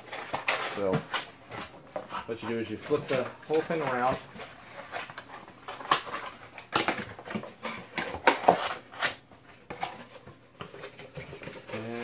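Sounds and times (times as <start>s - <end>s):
cardboard scraping and rustling: 0.0s - 12.0s.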